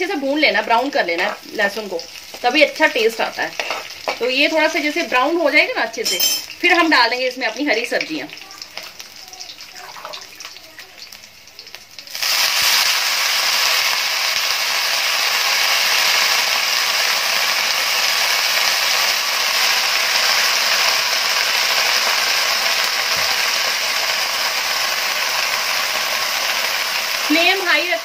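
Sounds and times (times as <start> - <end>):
greens sizzling in hot oil: 0.0 - 28.0.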